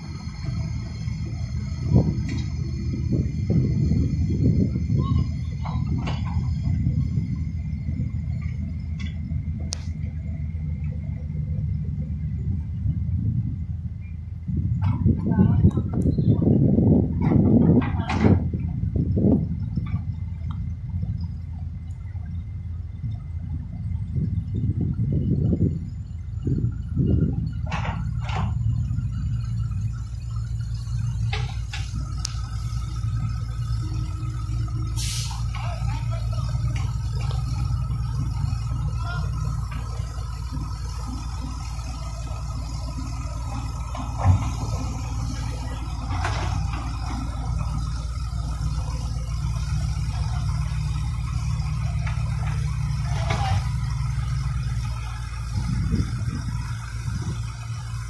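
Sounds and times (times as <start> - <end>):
diesel engine under load: 0.0 - 58.0.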